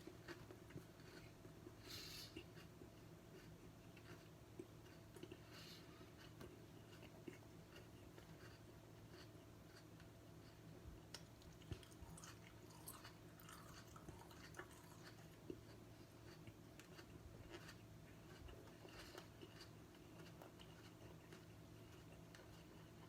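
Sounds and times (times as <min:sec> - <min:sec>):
chewing and crunching chili: 0:00.0 - 0:23.0.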